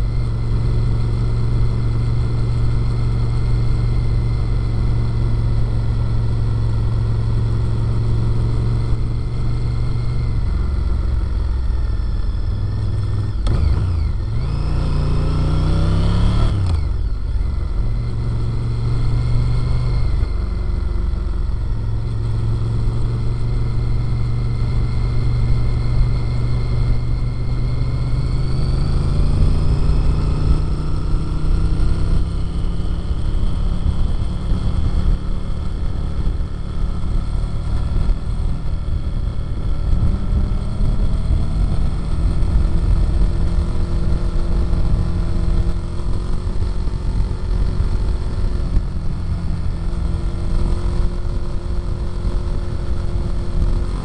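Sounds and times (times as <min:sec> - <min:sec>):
motorcycle engine and exhaust: 0:00.0 - 0:54.0
wind and road noise: 0:00.0 - 0:54.0.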